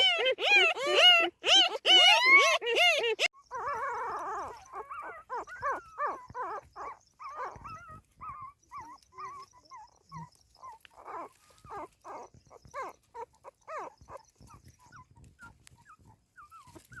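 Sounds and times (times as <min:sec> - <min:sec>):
puppies whimpering and squeaking: 0:00.0 - 0:17.0.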